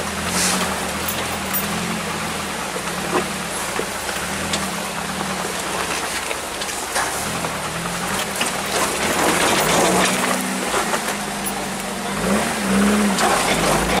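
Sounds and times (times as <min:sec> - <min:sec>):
truck engine revving: 0:00.0 - 0:06.3, 0:07.1 - 0:14.0
tyres crunching and rattling on rock: 0:00.5 - 0:02.0, 0:02.9 - 0:14.0.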